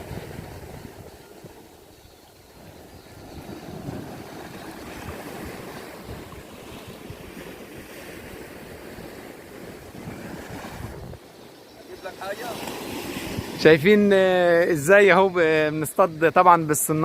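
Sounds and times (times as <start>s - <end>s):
wind buffeting microphone: 0.0s - 15.7s
sea waves washing: 0.0s - 17.0s.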